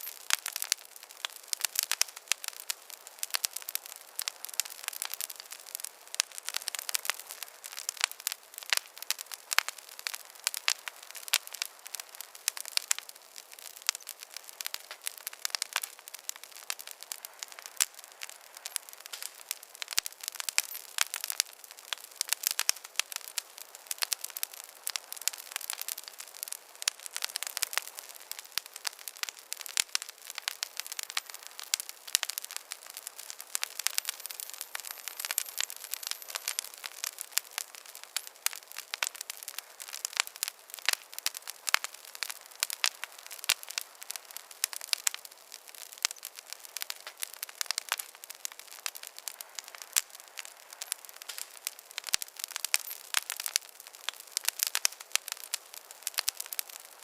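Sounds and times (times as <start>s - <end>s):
campfire crackling and popping: 0.0s - 57.0s
hiss of burning wood: 0.0s - 57.0s.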